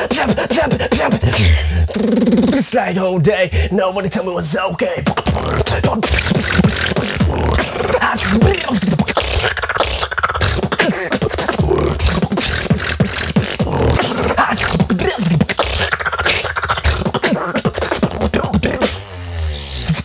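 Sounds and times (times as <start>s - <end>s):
person beatboxing: 0.0s - 20.0s.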